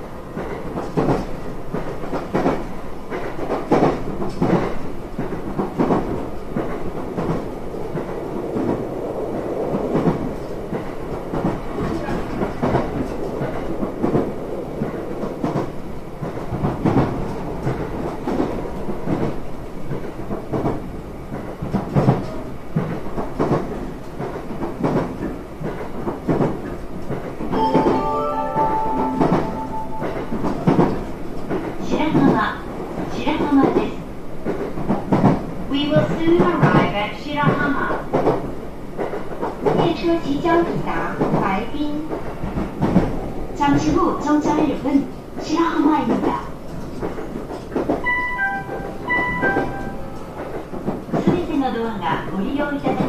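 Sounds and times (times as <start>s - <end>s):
train wheels rumbling on rails: 0.0s - 27.9s, 29.1s - 53.0s.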